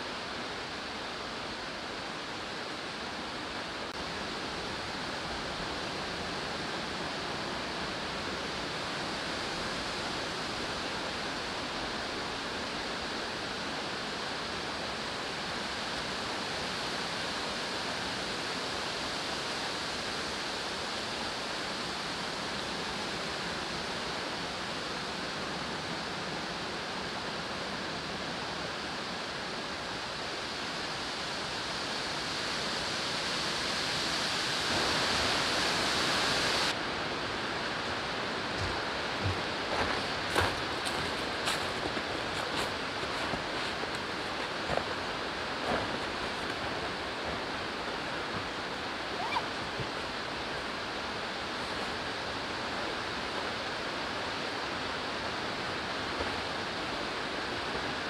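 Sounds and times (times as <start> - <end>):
stream rushing water: 0.0 - 58.0.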